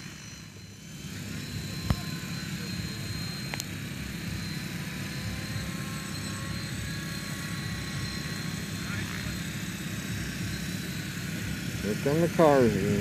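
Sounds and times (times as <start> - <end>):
model helicopter rotor whine: 0.0 - 13.0.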